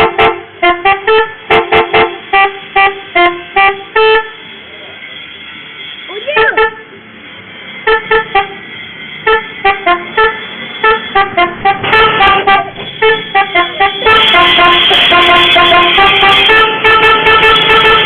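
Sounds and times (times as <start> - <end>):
multi-tone bus horn tune: 0.0 - 6.9, 7.6 - 18.0.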